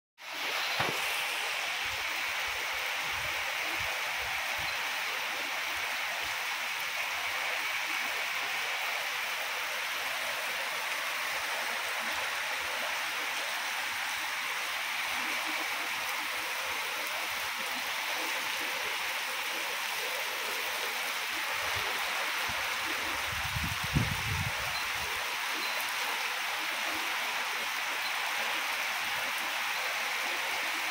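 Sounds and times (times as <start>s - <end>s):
heavy rain pouring: 0.2s - 30.9s
rainwater running over ground: 0.2s - 30.9s.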